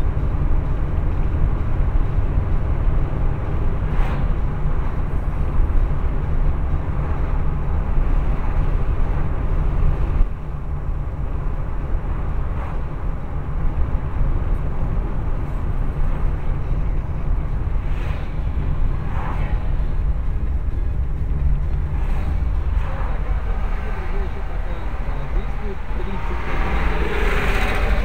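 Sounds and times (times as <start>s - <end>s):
car driving rumble: 0.0s - 28.0s.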